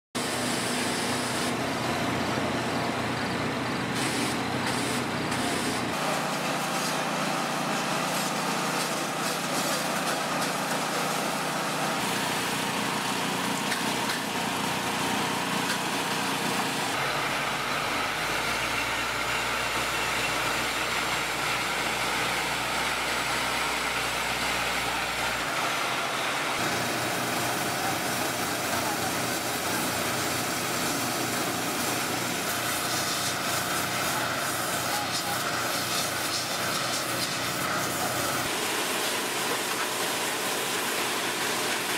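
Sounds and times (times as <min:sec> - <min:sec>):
engine and machinery noise: 0:00.2 - 0:41.9.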